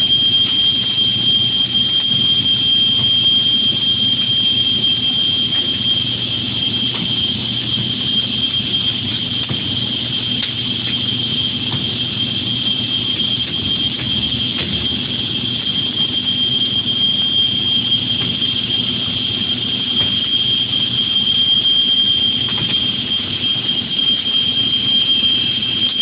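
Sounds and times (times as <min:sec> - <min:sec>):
welding machine whine: 0:00.0 - 0:26.0.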